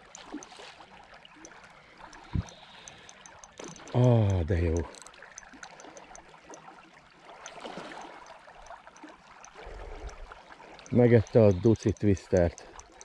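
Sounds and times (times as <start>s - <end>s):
fishing reel ticking: 0.0s - 13.0s
river water washing: 0.0s - 13.0s.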